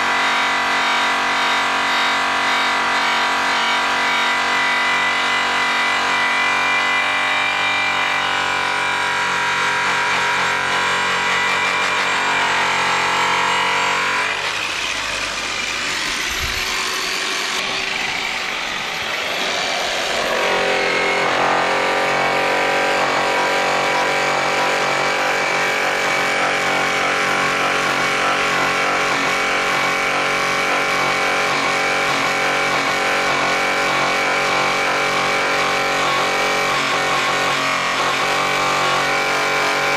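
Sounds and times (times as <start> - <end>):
rotary polisher whining: 0.0 - 39.9.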